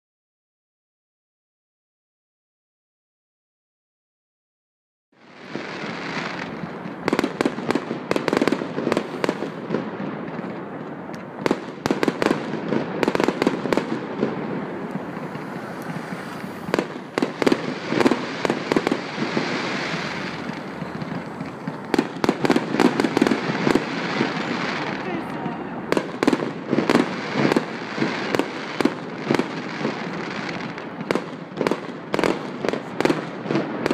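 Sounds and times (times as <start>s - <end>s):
fireworks bangs and crackles: 5.2s - 33.9s
steady background noise: 5.2s - 33.9s.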